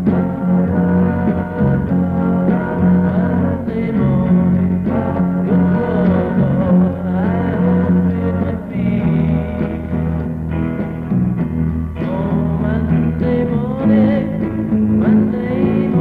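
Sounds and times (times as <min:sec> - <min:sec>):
pulsing bass line: 0:00.0 - 0:16.0
rock and roll band playing: 0:00.0 - 0:16.0.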